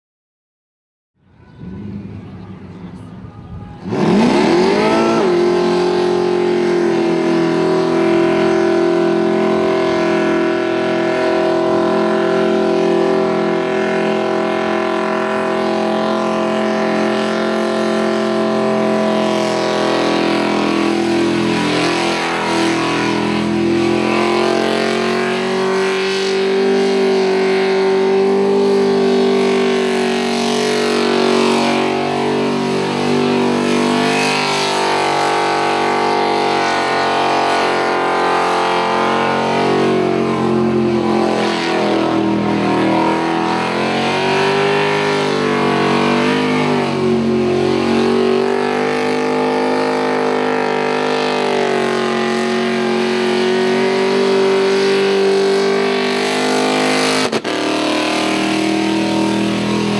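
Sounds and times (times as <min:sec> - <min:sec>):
car engine at high revs: 0:01.6 - 0:59.9.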